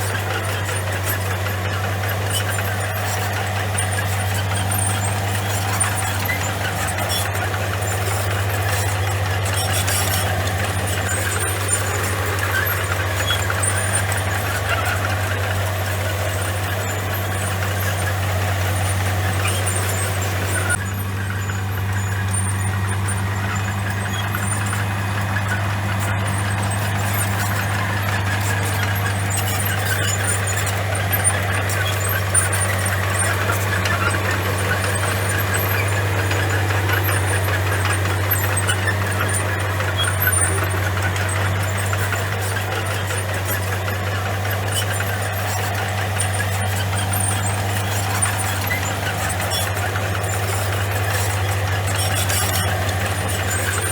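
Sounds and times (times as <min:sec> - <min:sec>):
bulldozer diesel engine drone: 0:00.0 - 0:53.9.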